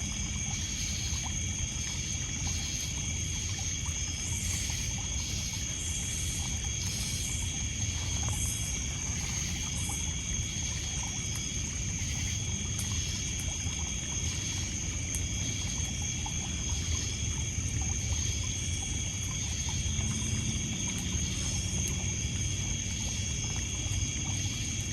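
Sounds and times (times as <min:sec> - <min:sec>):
insects trilling: 0:00.0 - 0:24.9.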